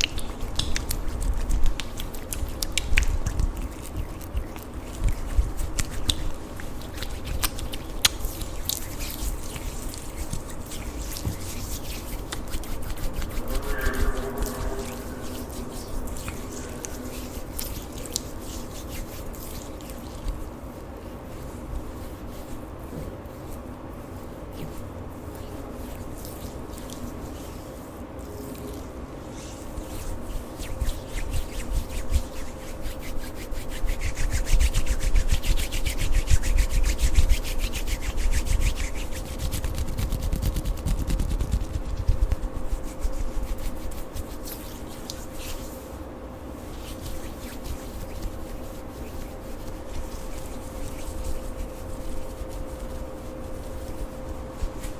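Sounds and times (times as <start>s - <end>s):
lotion being rubbed and squished: 0.0s - 54.9s.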